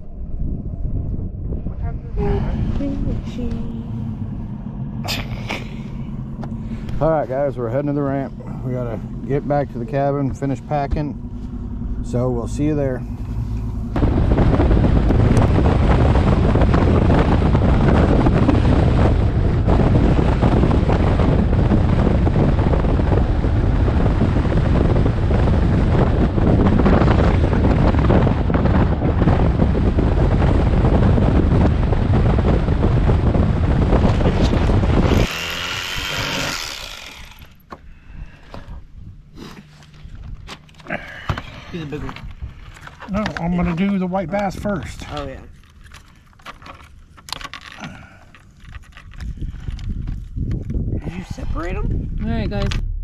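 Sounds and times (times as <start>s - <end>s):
wind noise on microphone: 0.0s - 53.0s
outboard motor running: 2.0s - 50.7s.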